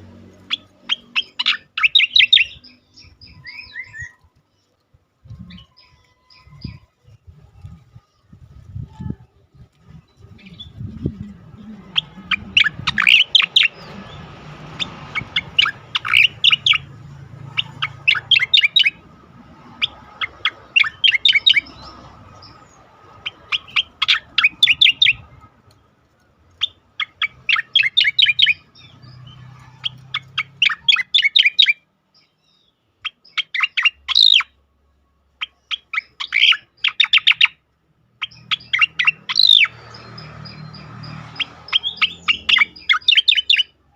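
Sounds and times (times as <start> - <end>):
bird singing rapid chattering notes: 0.1 - 8.8, 9.6 - 25.9, 26.5 - 34.6, 35.4 - 43.9.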